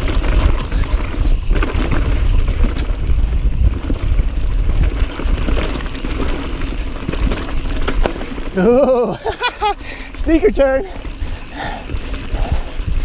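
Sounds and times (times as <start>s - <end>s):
wind rumble on microphone: 0.0s - 8.9s, 10.1s - 13.0s
bike rattling and clicking: 0.0s - 13.0s
tyres crunching over dirt and rocks: 0.0s - 13.0s.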